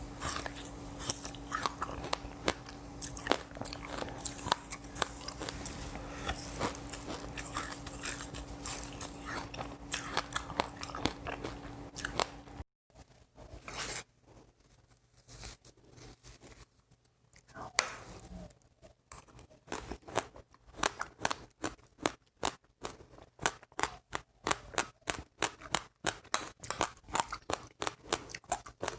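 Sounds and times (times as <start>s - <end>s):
crunching and chewing seeds: 0.0s - 12.6s, 15.8s - 28.9s
faint steady hum: 0.0s - 28.9s.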